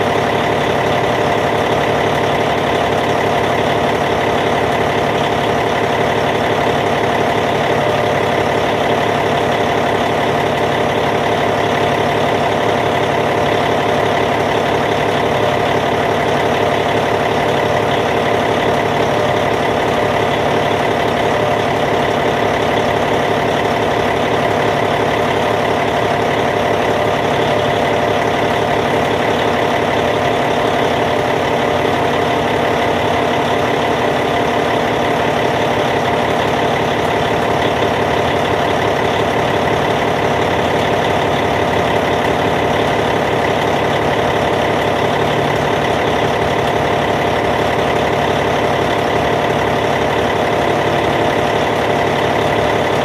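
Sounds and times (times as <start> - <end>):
bulldozer diesel engine idling: 0.0 - 53.0.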